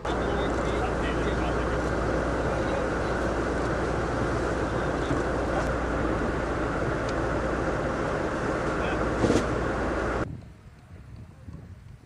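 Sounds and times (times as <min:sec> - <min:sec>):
boat engine droning: 0:00.0 - 0:10.3.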